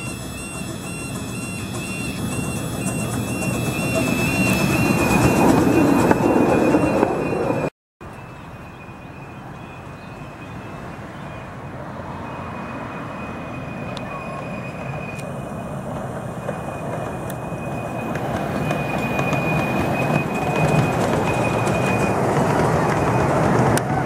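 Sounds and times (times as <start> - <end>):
thin high whine: 0.0 - 10.9, 12.1 - 22.2
steam locomotive passing: 0.0 - 24.0.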